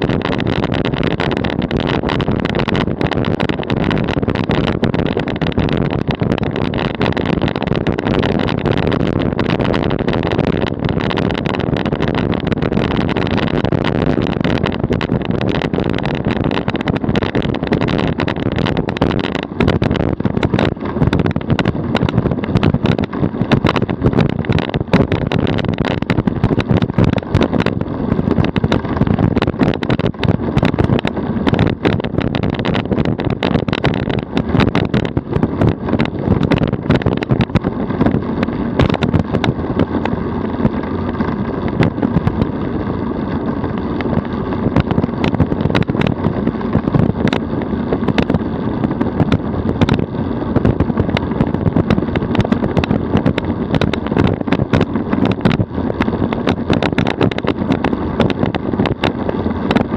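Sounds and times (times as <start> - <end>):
sharp rattling clicks: 0.0 - 59.9
tyres rumbling on asphalt: 0.0 - 59.9.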